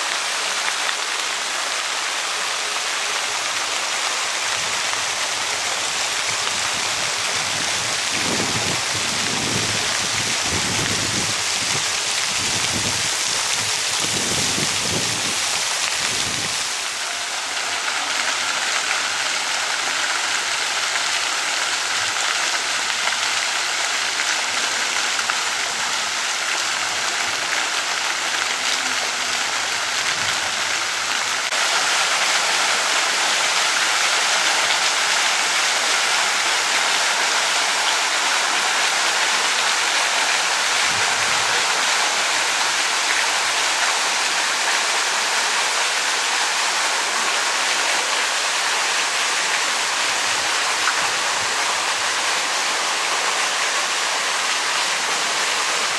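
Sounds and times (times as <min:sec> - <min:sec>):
running splashing water: 0:00.0 - 0:55.9.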